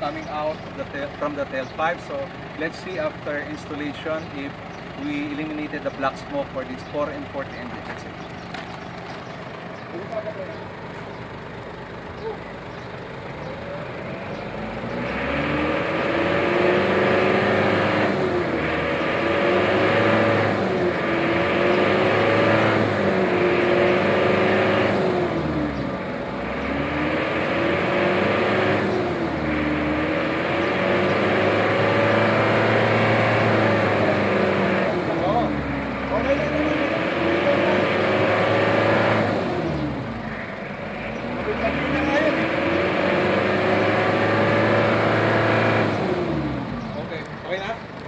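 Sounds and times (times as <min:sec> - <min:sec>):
diesel engine revving: 0:00.0 - 0:48.0.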